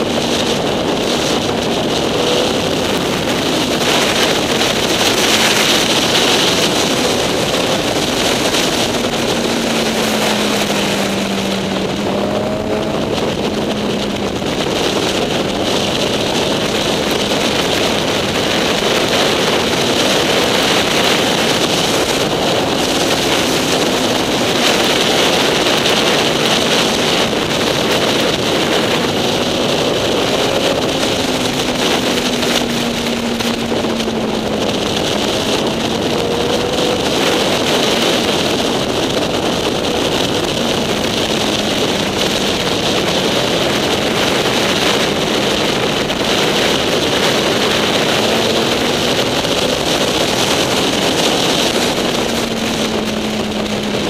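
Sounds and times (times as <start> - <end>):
motorcycle engine droning: 0.0 - 54.0
wind rushing over microphone: 0.0 - 54.0.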